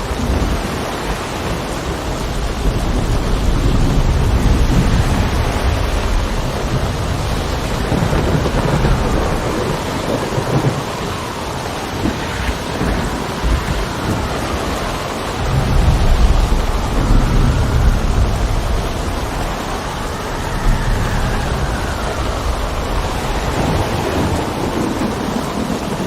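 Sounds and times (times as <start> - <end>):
heavy rain: 0.0 - 26.0
wind: 0.0 - 26.0.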